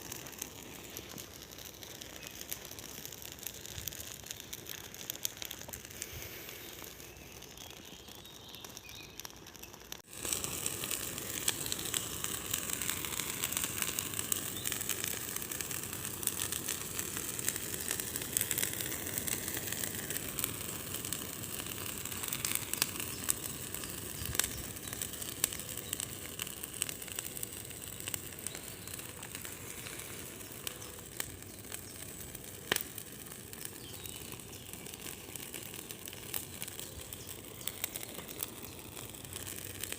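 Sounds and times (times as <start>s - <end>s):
bonfire hissing rush of flame: 0.0s - 39.9s
fire crackles and pops: 0.0s - 39.9s.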